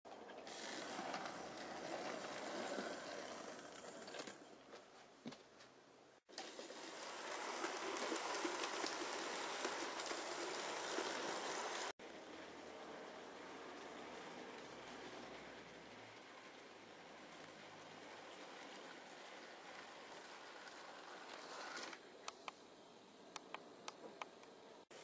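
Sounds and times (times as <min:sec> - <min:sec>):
wheels rumbling on rails: 0:00.1 - 0:04.8, 0:06.3 - 0:22.0
model train motors whirring: 0:00.4 - 0:04.4, 0:06.3 - 0:22.5.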